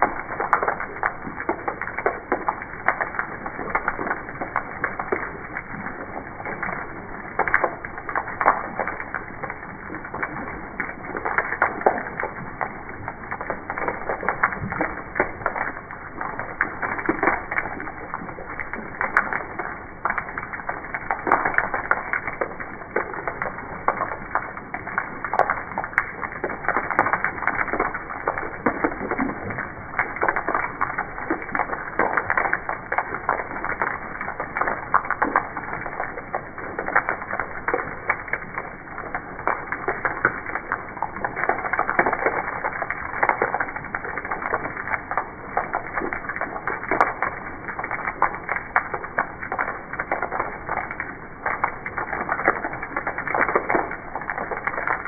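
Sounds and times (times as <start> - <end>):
rain on wooden steps: 0.0 - 55.0.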